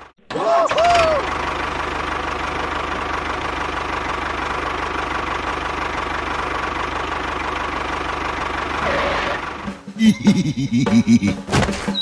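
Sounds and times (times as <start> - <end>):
engine running with knocking: 1.0 - 12.0.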